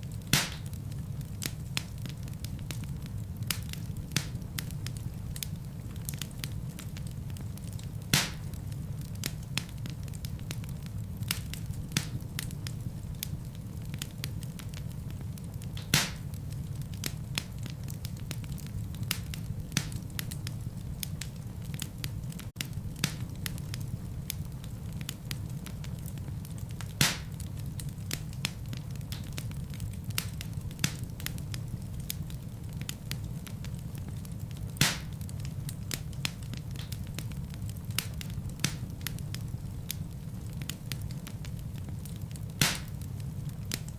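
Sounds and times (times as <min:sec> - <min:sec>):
fire rumbling and crackling: 0:00.0 - 0:43.9
loud fire pops: 0:00.0 - 0:43.9.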